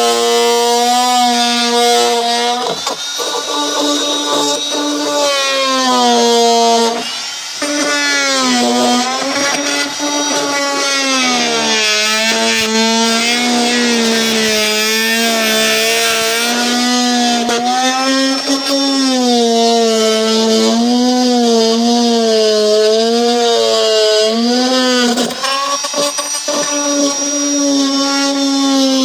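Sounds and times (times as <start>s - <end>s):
rotary tool cutting plastic: 0.0s - 29.0s.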